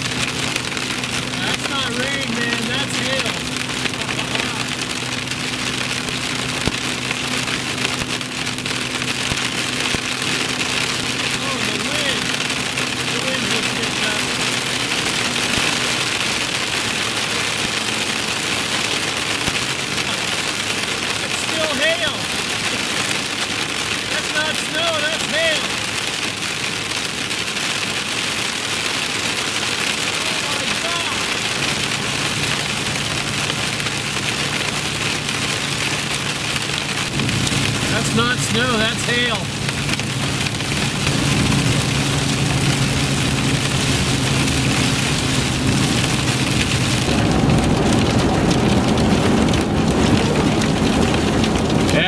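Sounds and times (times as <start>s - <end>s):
hail and rain on vehicle roof: 0.0s - 52.0s
low engine hum: 0.0s - 52.0s.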